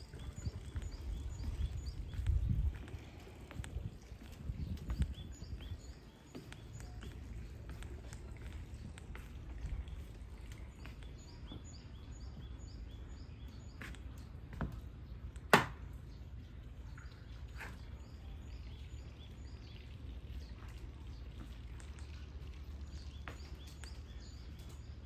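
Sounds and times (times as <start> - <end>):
background hum: 0.0 - 25.0.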